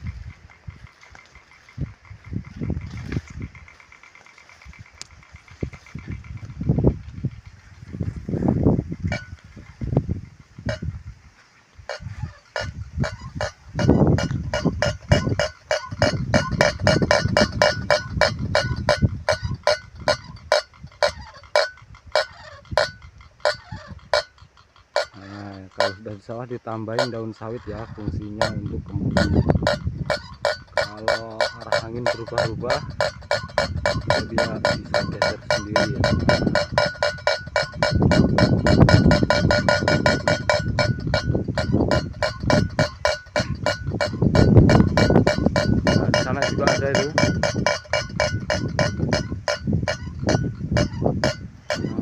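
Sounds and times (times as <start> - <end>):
wind rumbling on microphone: 0.0 - 52.0
windmill striker clacking: 0.0 - 52.0
bird-scarer clinking: 8.9 - 11.0, 11.9 - 52.0.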